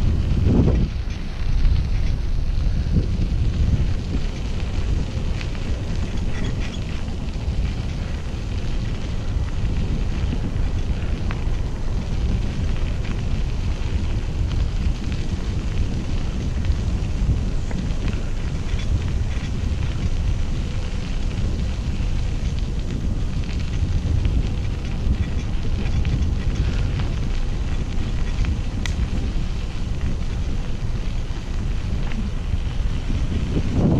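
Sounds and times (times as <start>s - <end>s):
wind buffeting microphone: 0.0s - 33.9s
faint ticks: 0.8s - 33.9s.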